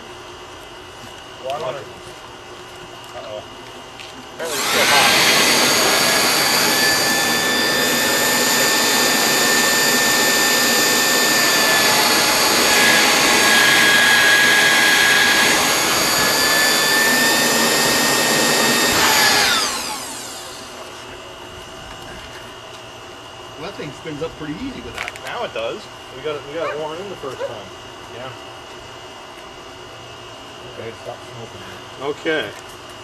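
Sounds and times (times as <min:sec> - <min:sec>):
jet engine high whine: 0:00.0 - 0:33.0.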